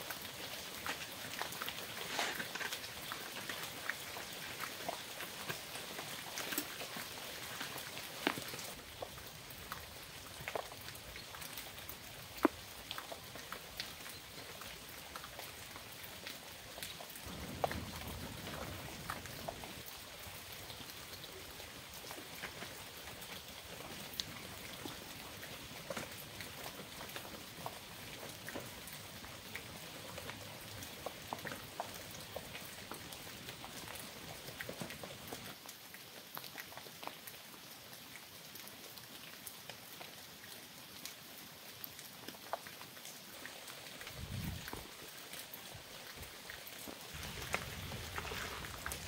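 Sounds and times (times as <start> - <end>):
raindrops ticking: 0.0 - 37.5, 41.8 - 49.0
steady rain: 0.0 - 49.0.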